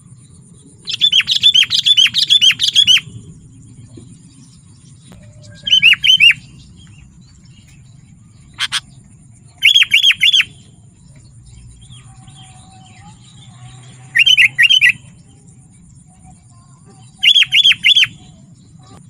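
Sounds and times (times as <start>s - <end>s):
bird whistled song: 0.0s - 19.0s.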